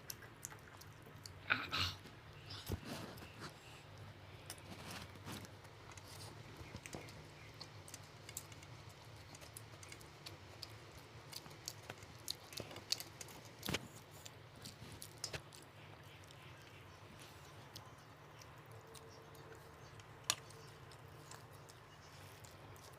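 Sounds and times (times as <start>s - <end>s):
faint low hum: 0.0s - 22.9s
wet chewing clicks and smacks: 0.0s - 22.9s.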